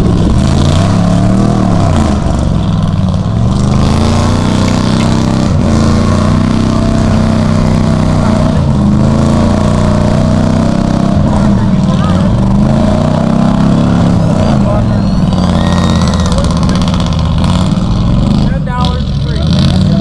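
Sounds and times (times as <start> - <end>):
truck engine revving hard: 0.0 - 20.0.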